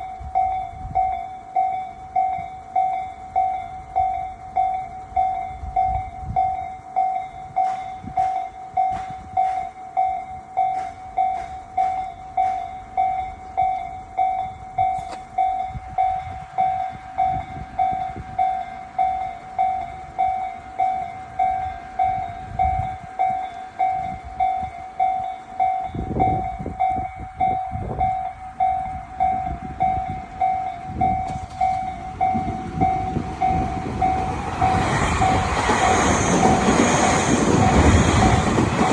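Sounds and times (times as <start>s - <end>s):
level-crossing warning bell: 0.0s - 38.9s
train rumble: 0.0s - 38.9s
train wheels clacking: 7.0s - 38.9s.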